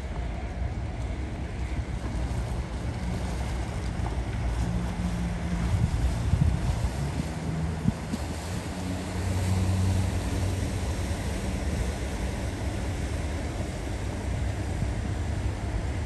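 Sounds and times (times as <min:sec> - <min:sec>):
boat engines humming: 0:00.0 - 0:16.0
wind and water hiss: 0:00.0 - 0:16.0.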